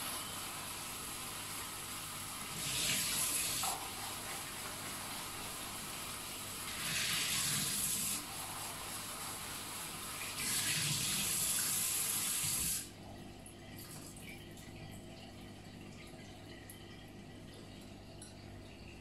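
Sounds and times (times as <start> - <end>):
tap water running into bowl: 0.0 - 19.0.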